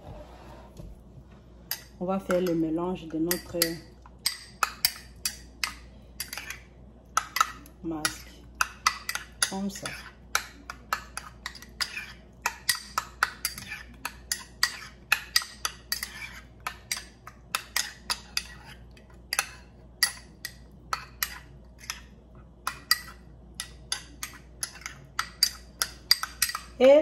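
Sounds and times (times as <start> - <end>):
spoon scraping bowl: 1.7 - 26.7
spoon clinking against bowl: 1.7 - 26.8.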